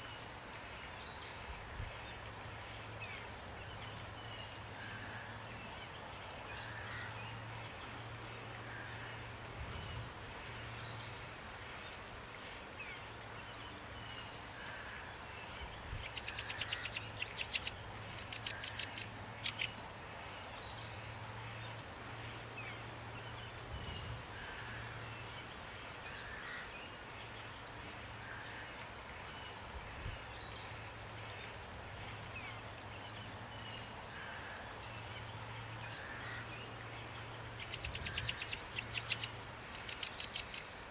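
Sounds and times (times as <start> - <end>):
rain hiss: 0.0 - 40.9
songbirds chirping: 0.0 - 40.9.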